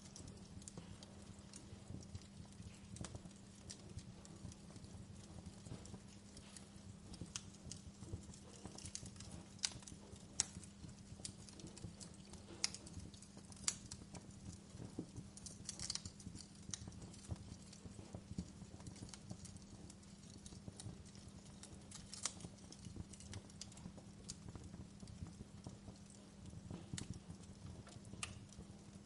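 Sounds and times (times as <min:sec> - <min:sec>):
steady low hum: 0:00.0 - 0:29.0
wood fire crackling: 0:00.0 - 0:29.0.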